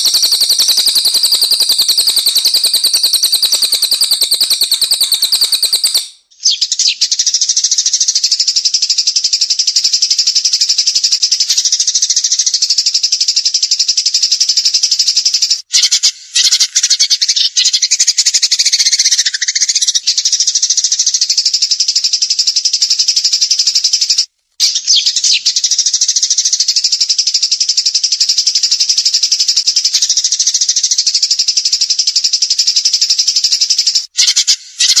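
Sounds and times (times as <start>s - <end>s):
songbird rapid trill: 0.0s - 35.0s.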